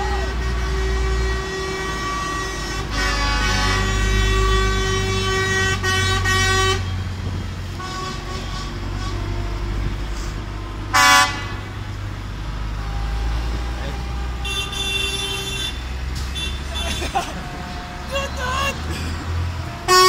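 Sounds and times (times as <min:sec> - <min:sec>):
diesel trucks passing: 0:00.0 - 0:20.0
truck horns sounding chords: 0:00.0 - 0:20.0.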